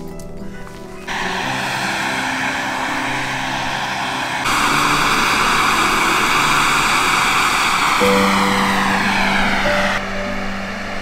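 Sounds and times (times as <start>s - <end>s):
camping stove burner hissing: 1.0s - 11.0s.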